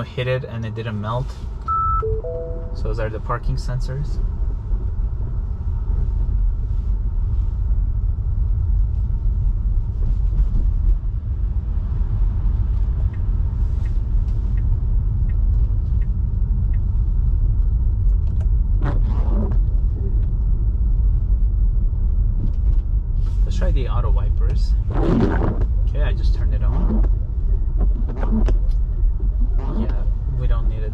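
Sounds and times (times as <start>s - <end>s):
tyre and road noise on snow: 2.6s - 30.9s.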